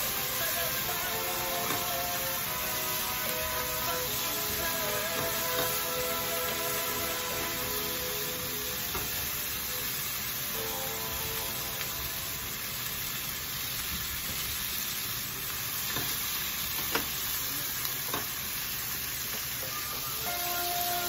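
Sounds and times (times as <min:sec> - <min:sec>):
food sizzling in a wok: 0:00.0 - 0:21.0.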